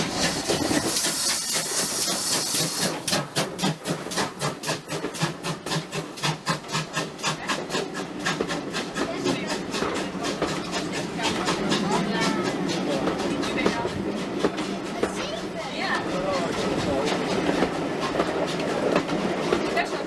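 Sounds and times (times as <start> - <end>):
steam hiss: 0.0 - 20.0
steam locomotive chuffing: 0.0 - 20.0.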